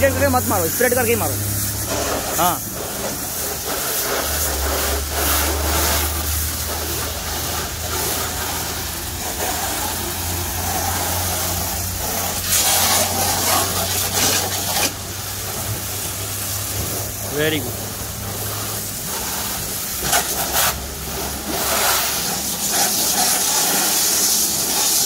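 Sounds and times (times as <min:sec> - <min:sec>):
pressure washer pump humming: 0:00.0 - 0:25.0
water jet hissing: 0:00.0 - 0:25.0.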